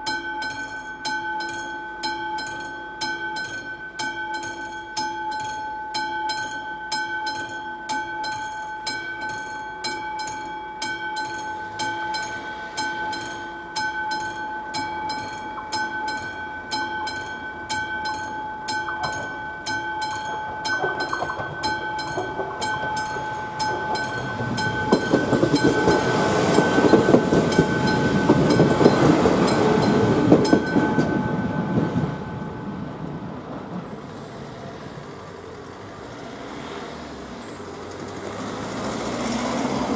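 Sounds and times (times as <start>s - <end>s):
level crossing bell ringing: 0.0s - 33.1s
passenger train passing: 4.4s - 39.9s.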